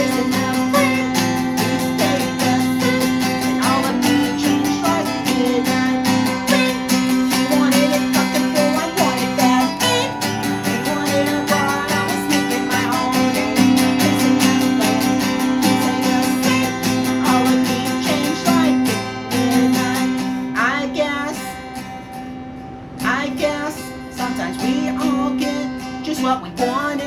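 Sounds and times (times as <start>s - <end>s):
person singing wordlessly: 0.0s - 21.7s, 23.0s - 27.0s
acoustic guitar strumming: 0.0s - 27.0s.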